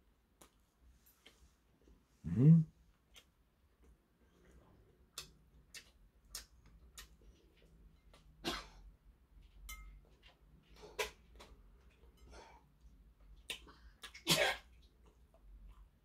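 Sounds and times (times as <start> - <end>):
quiet chewing: 0.4 - 2.0, 2.9 - 8.4, 9.3 - 16.0.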